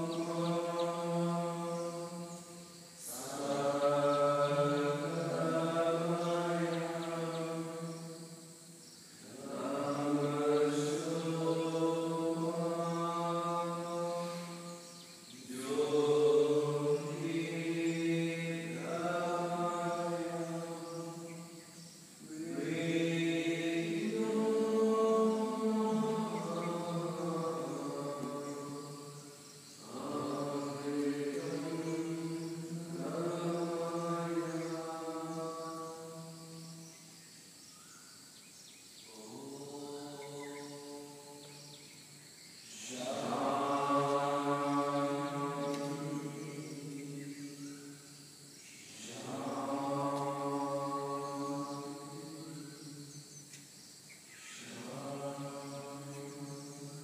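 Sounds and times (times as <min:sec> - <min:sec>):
men chanting held notes: 0:00.0 - 0:36.8, 0:39.0 - 0:41.9, 0:42.7 - 0:47.9, 0:48.8 - 0:53.2, 0:54.4 - 0:57.0.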